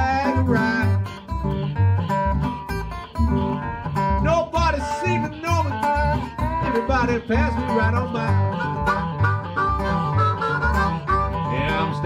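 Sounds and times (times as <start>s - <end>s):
acoustic guitar picking: 0.0s - 12.0s
harmonica notes bending: 0.0s - 12.0s.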